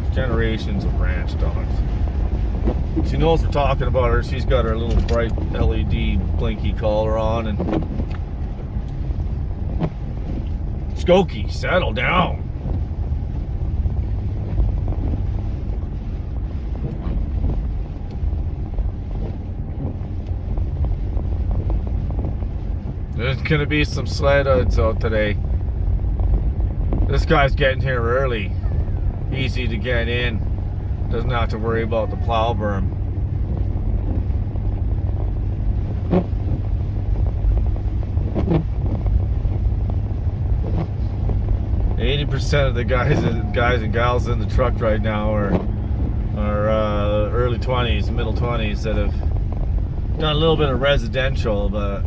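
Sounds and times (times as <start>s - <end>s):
truck engine and road rumble: 0.0s - 52.0s.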